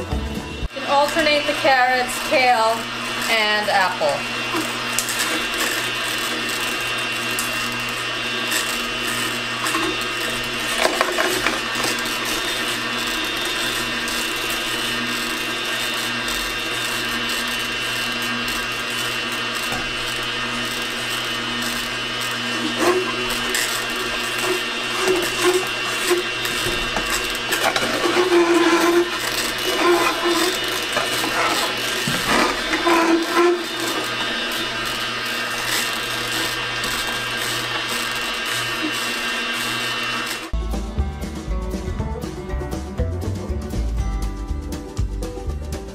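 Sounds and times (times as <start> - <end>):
juicer motor hum: 0.0 - 40.6.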